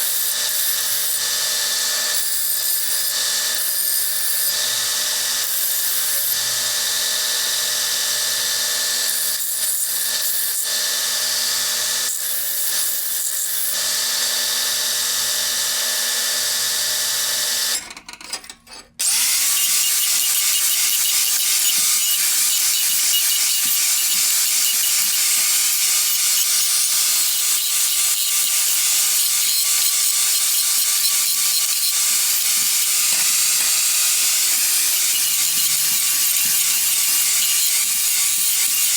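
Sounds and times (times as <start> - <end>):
electric drill drilling metal: 0.0 - 18.2, 19.0 - 38.9.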